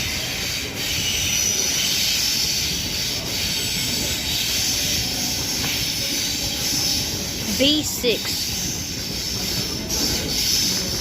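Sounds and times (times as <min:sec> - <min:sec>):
electric trains rumbling and hissing: 0:00.0 - 0:11.0.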